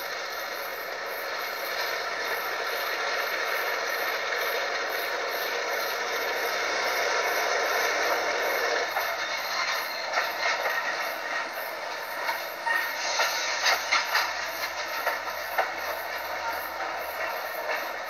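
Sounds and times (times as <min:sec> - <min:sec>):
train running noise: 0:00.0 - 0:18.0.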